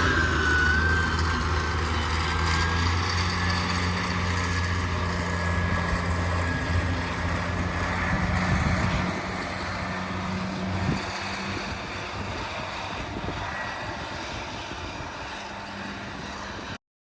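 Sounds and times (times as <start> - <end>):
engine humming steadily: 0.0 - 16.8.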